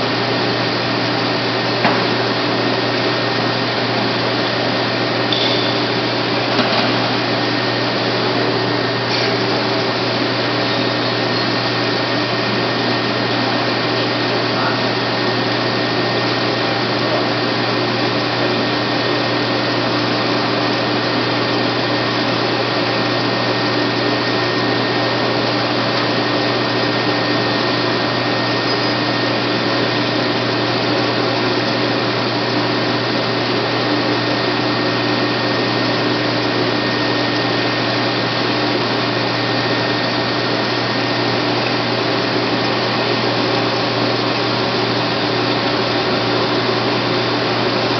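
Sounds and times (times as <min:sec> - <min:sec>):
metal lathe running: 0:00.0 - 0:47.9.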